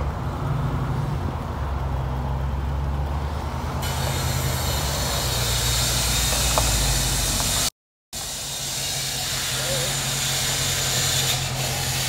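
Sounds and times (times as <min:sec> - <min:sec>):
car engine idling: 0:01.0 - 0:11.8.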